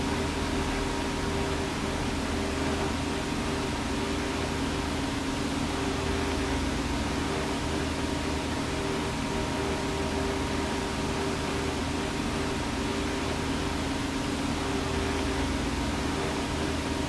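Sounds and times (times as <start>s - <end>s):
ventilation fans humming: 0.0s - 17.0s.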